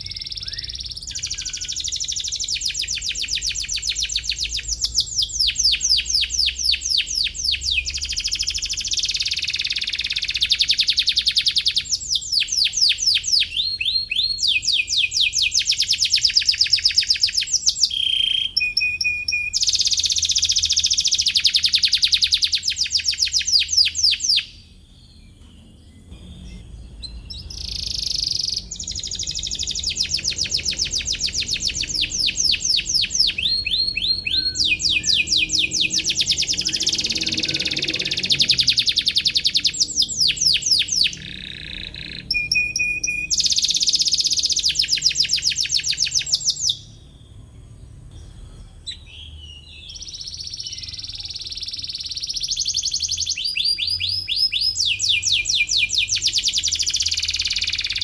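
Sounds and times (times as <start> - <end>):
canary singing: 0.0 - 47.7, 48.3 - 58.0.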